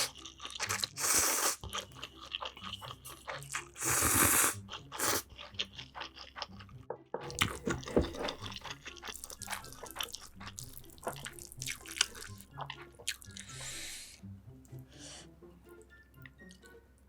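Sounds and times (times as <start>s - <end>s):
wet chewing: 0.0s - 14.1s.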